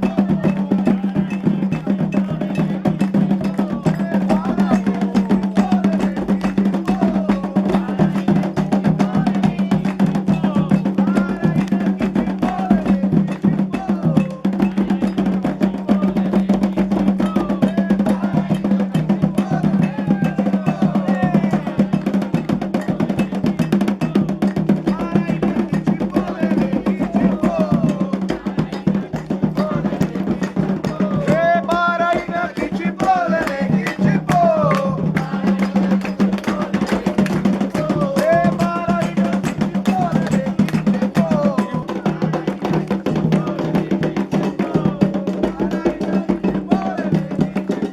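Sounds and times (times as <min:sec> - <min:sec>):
fast hand-drumming: 0:00.0 - 0:47.9
struck percussion keeping time: 0:00.0 - 0:47.9
voices singing: 0:00.0 - 0:47.9.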